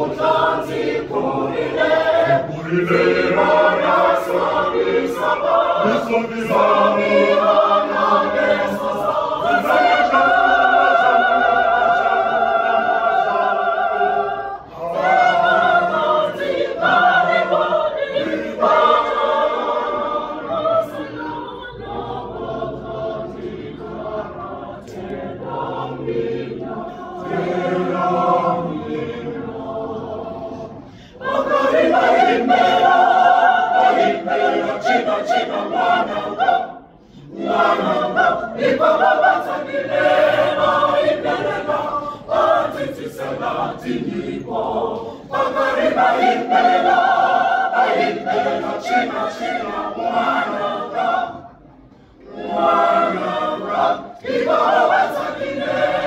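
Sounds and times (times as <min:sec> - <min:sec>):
choir singing in parts: 0:00.0 - 0:56.0.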